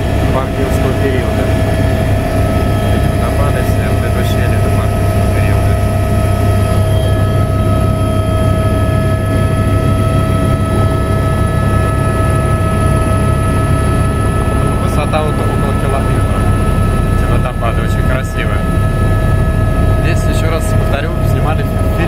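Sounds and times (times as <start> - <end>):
helicopter rotor and engine drone: 0.0 - 22.0
high whining tones: 0.0 - 22.0.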